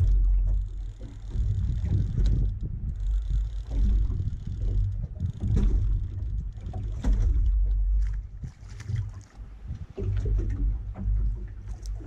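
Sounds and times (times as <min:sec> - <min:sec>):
sharp knocks of rod and reel: 0:00.0 - 0:12.0
wind buffeting microphone: 0:00.0 - 0:12.0.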